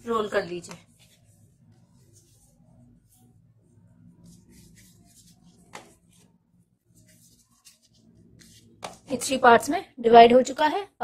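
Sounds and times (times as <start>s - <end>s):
hands rolling dough: 0.0s - 9.4s.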